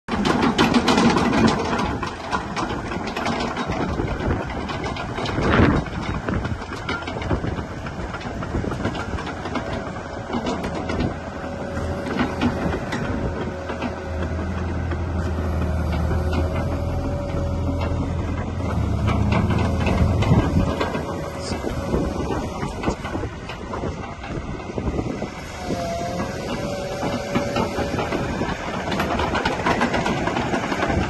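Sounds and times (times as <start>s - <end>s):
excavator diesel engine running: 0.1s - 31.0s
track chain clanking: 0.1s - 31.0s.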